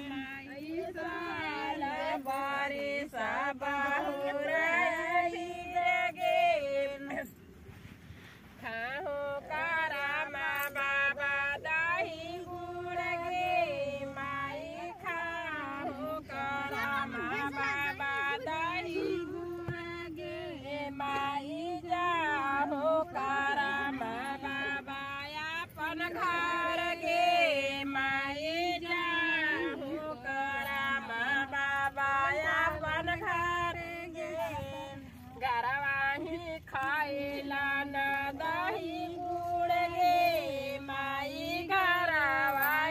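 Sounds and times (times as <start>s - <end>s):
women and girls singing: 0.0s - 7.9s, 8.5s - 42.9s.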